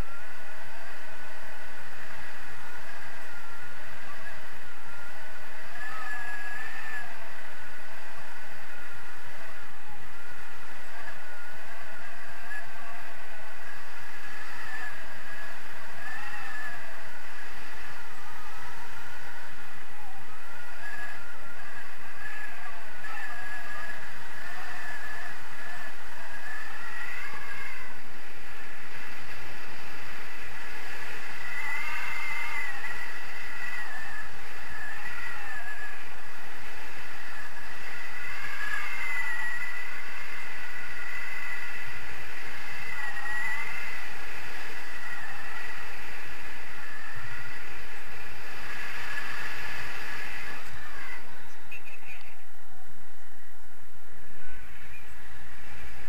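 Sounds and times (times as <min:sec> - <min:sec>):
wavering high whistle: 0:00.0 - 0:52.4, 0:53.2 - 0:56.0
wind rushing over microphone: 0:00.0 - 0:56.0.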